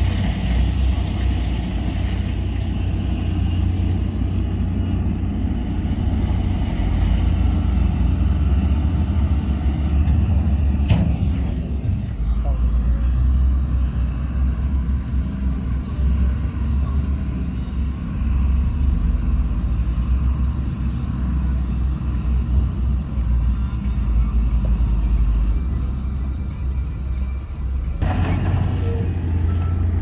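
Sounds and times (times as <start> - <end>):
heavy diesel machinery rumbling: 0.0 - 30.0.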